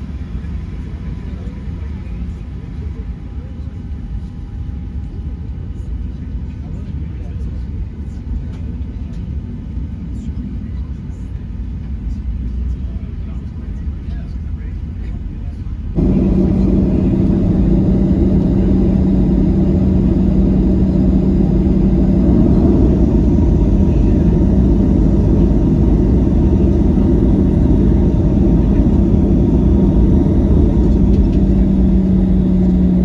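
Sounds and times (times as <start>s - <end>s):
airplane cabin rumble: 0.0s - 33.0s
constant low hum: 0.0s - 33.0s.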